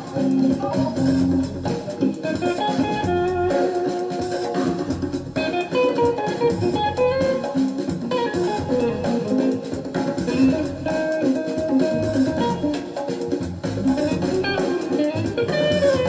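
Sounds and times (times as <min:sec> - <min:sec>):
jazz guitar music: 0:00.0 - 0:16.0.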